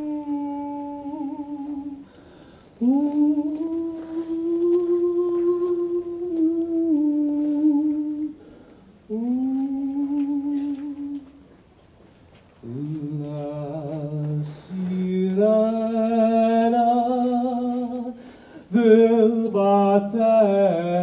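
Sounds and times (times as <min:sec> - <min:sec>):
person humming held notes: 0:00.0 - 0:02.1, 0:02.7 - 0:11.5, 0:12.6 - 0:21.0.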